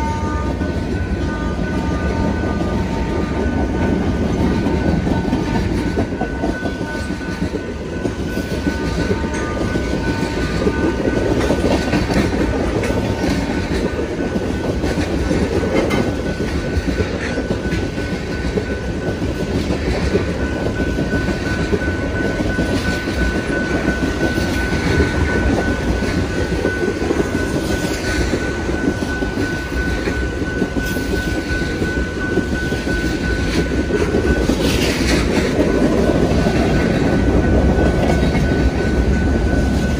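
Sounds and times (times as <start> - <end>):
high ringing tone: 0.0 - 39.9
train cars rumbling over rails: 0.0 - 39.9.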